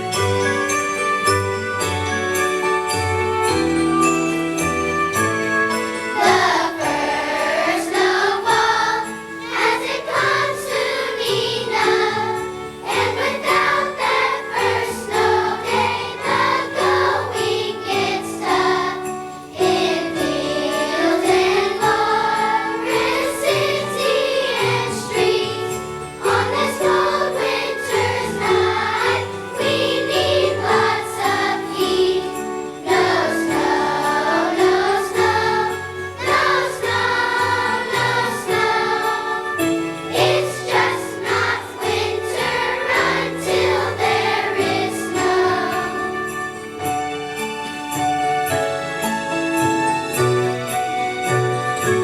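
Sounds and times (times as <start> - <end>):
children's choir singing: 0.0 - 52.0
musical accompaniment: 0.0 - 52.0.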